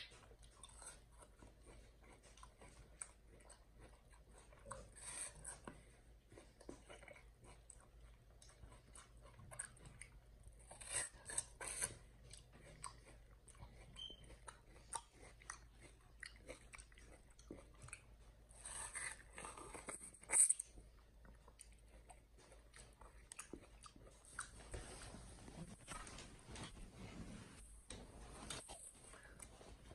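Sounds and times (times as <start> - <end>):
chimpanzee chewing watermelon: 0.0 - 26.7.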